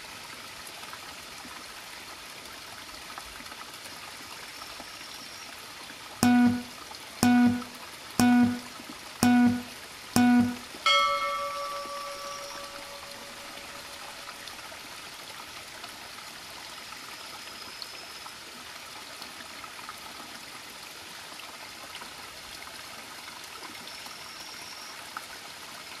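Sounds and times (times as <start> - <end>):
mountain stream flowing over stones: 0.0 - 6.2, 10.9 - 26.0.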